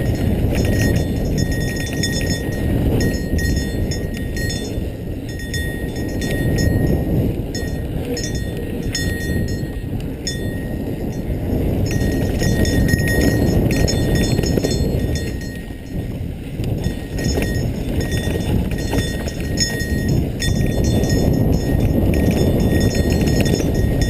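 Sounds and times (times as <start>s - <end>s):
bike rattling and knocking: 0.0s - 24.0s
bike tyres on dirt: 0.0s - 24.0s
wind rushing over microphone: 0.0s - 24.0s.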